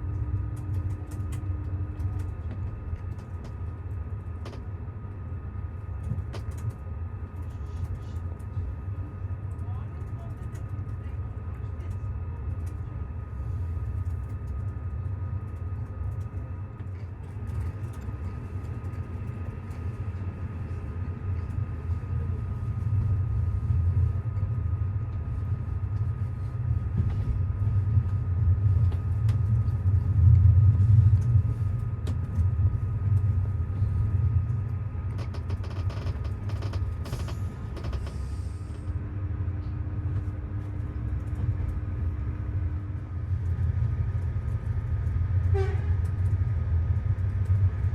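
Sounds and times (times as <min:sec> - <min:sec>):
train clicks and rattles: 0:00.0 - 0:47.9
train rumbling: 0:00.0 - 0:47.9.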